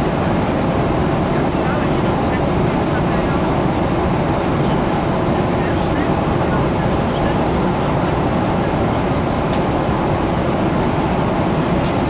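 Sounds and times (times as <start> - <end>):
airplane cabin engine and airflow rumble: 0.0 - 12.0.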